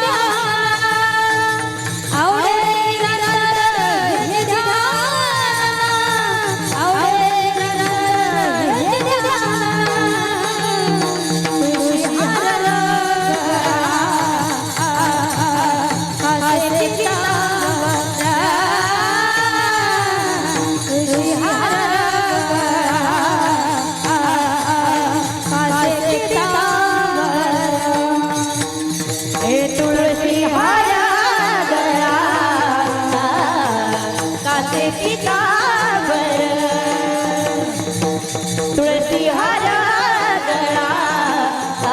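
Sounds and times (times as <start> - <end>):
accompanying instruments: 0.0 - 41.9
person singing devotional song: 0.0 - 41.9.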